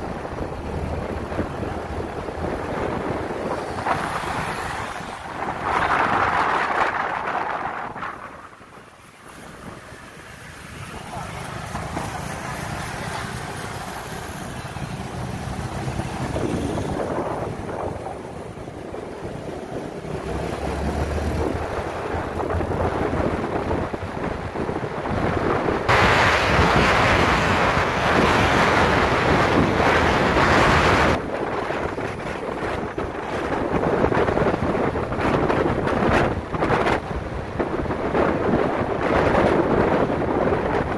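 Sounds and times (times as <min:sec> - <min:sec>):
motorbike engine and road noise: 0:00.0 - 0:40.9
wind rushing over microphone: 0:00.0 - 0:40.9.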